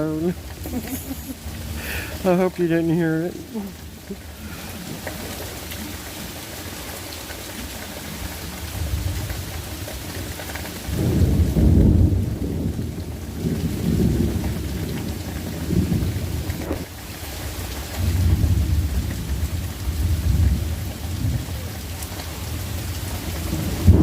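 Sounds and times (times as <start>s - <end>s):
thunder rumbling: 0.0s - 16.9s, 18.0s - 24.0s
steady rain: 0.0s - 24.0s.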